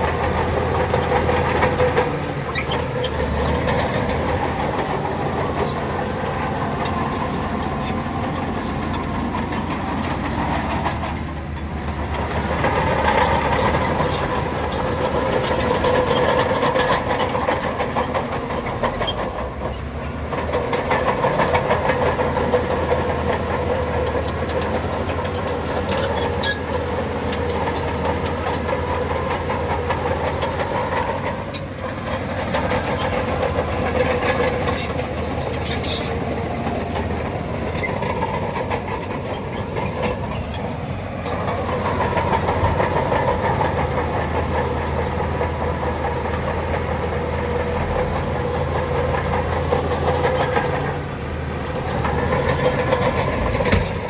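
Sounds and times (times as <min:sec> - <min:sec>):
bulldozer diesel engine under load: 0:00.0 - 0:54.0
steel tracks clanking and squealing: 0:00.0 - 0:54.0.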